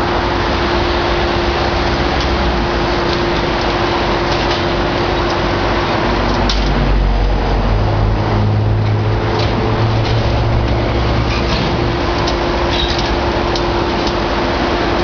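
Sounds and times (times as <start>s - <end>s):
diesel engine under load: 0.0s - 15.0s
hydraulic whine: 0.0s - 15.0s.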